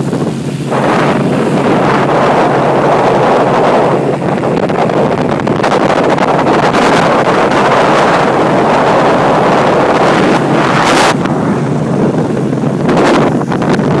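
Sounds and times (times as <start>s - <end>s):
boat engine and water rushing: 0.0s - 14.0s
wind buffeting microphone: 0.0s - 14.0s.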